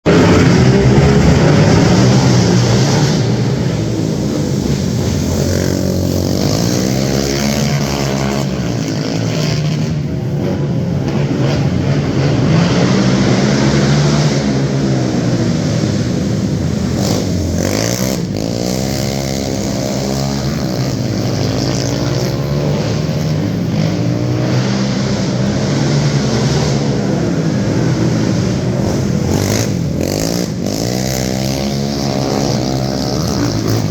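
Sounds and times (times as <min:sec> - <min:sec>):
quad engines revving: 0:00.0 - 0:33.9.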